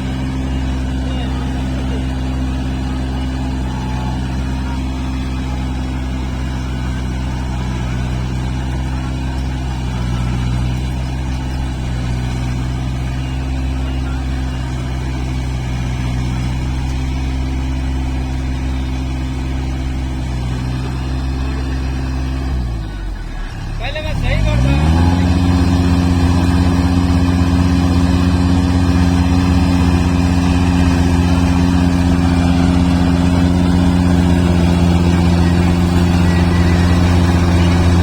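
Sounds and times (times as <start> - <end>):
combine harvester diesel engine: 0.0 - 38.0.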